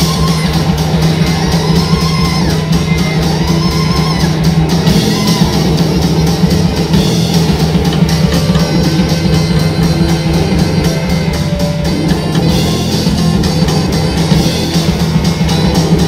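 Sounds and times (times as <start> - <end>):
close-set drum strokes: 0.0 - 16.0
live band playing: 0.0 - 16.0.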